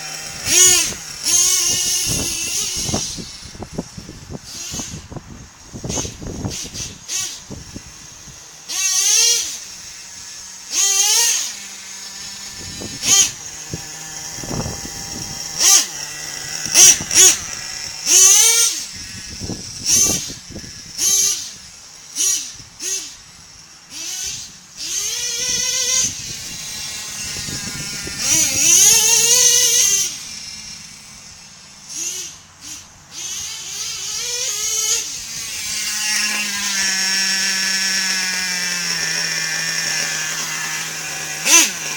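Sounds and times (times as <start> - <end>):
model truck engine revving: 0.0 - 41.9.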